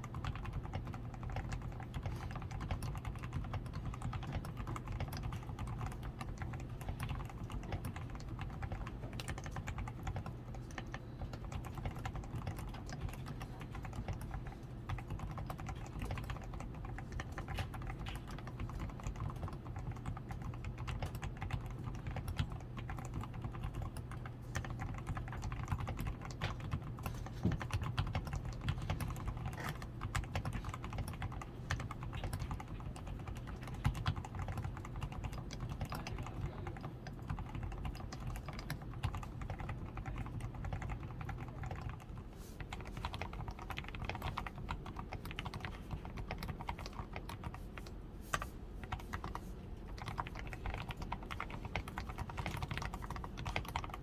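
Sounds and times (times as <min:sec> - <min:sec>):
muted mechanical keyboard typing: 0:00.0 - 0:54.0.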